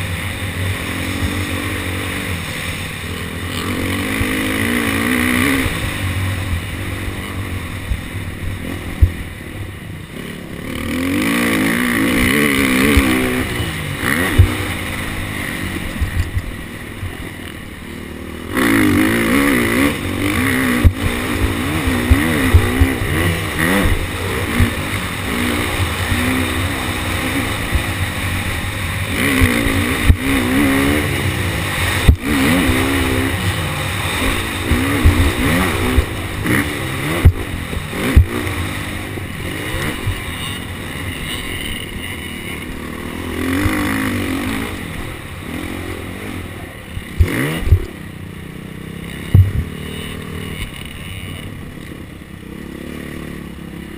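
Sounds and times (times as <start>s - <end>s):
motocross engine revving: 0.0s - 53.9s.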